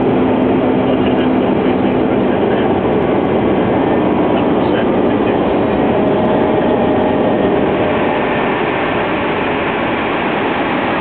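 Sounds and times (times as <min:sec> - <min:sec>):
airflow rushing: 0:00.0 - 0:11.0
jet engines droning: 0:00.0 - 0:11.0
faint steady whine: 0:00.8 - 0:11.0.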